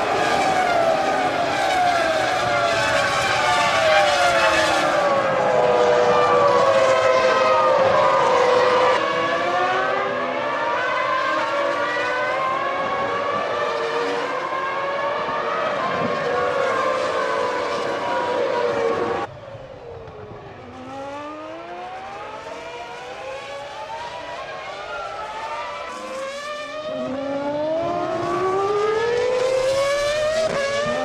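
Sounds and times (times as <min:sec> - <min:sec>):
racing engines revving: 0:00.0 - 0:31.0.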